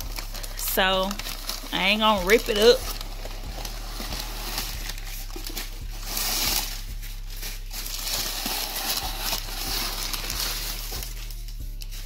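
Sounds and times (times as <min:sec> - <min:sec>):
packing paper rustling: 0:00.0 - 0:12.0.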